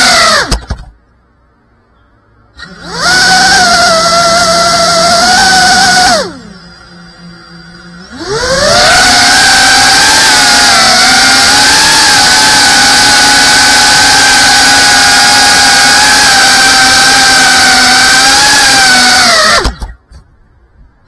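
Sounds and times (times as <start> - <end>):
drone motors whining: 0.0 - 0.9, 2.5 - 20.3.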